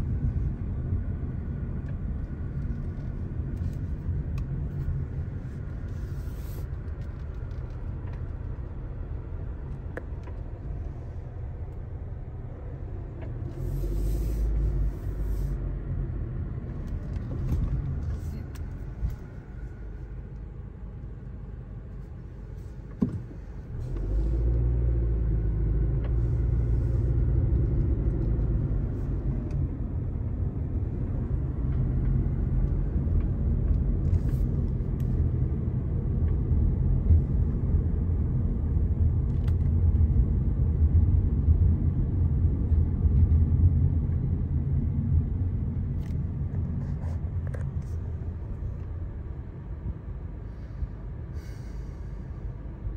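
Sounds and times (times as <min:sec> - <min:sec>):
car road and engine noise: 0:00.0 - 0:52.9.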